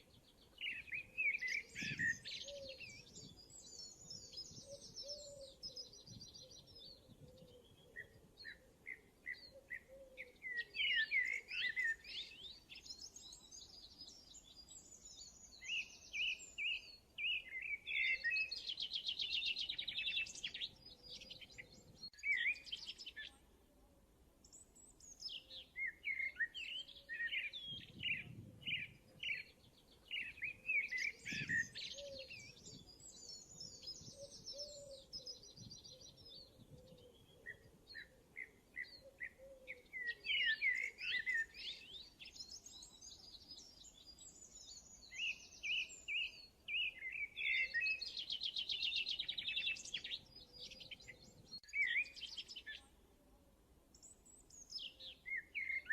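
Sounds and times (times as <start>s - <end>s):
birds chirping and trilling: 0.0s - 23.6s, 24.4s - 53.0s, 53.9s - 55.9s.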